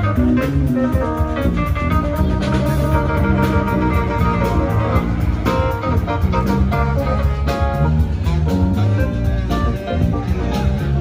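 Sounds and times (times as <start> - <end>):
drum kit: 0.0 - 11.0
guitar: 0.0 - 11.0.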